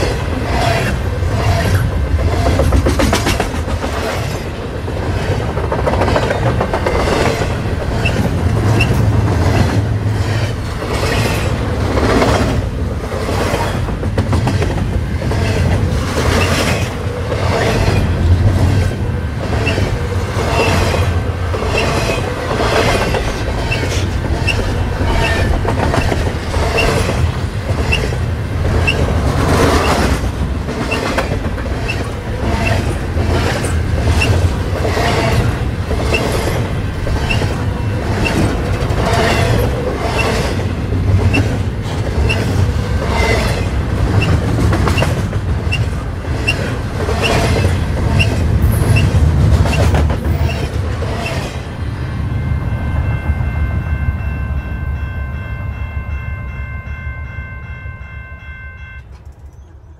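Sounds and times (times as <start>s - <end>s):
wheels clacking over rail joints: 0.0s - 51.6s
freight train rumbling past: 0.0s - 59.9s.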